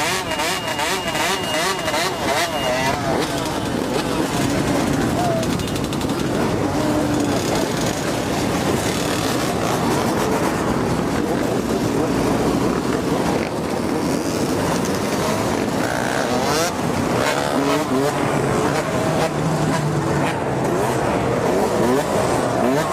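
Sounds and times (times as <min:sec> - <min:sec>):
motorbike engines revving: 0:00.0 - 0:22.9
street traffic noise: 0:00.0 - 0:22.9.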